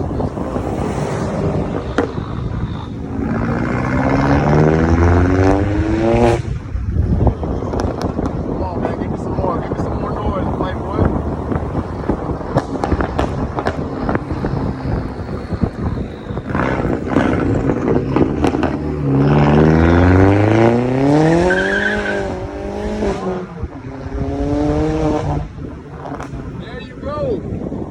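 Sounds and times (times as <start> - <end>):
car engine revving: 0.0 - 26.7
exhaust popping and crackling: 0.0 - 27.9.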